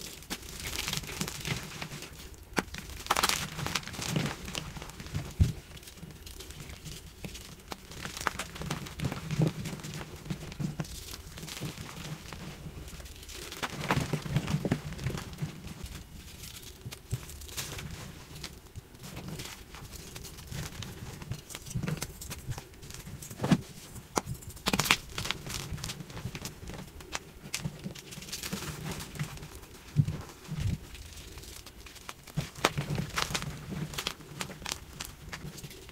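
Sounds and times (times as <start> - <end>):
chalk blocks crunching: 0.0 - 35.9.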